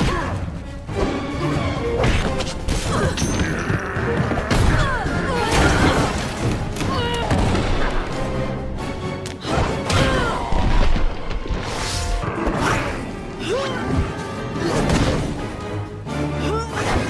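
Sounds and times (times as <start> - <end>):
action film music: 0.0 - 17.0.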